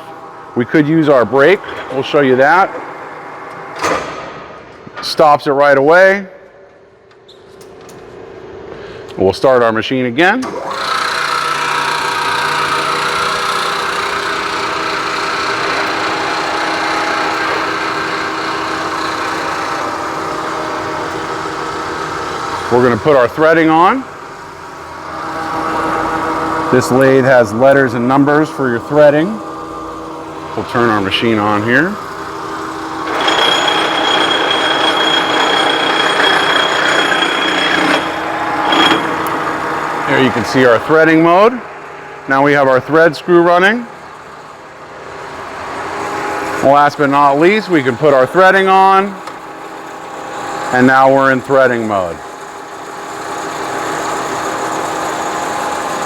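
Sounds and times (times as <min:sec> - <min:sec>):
lathe hum and whine: 0:10.4 - 0:56.0.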